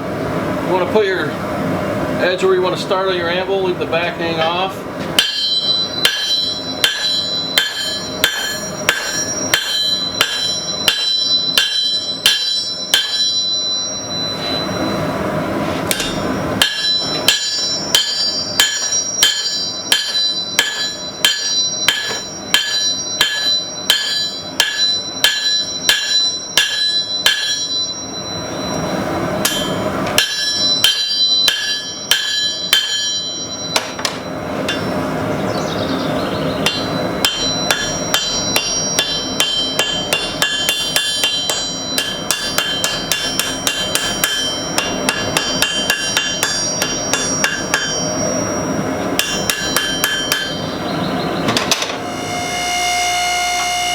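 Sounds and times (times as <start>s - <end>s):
hammer ringing on anvil: 5.2s - 15.1s, 15.9s - 35.0s, 36.6s - 53.9s.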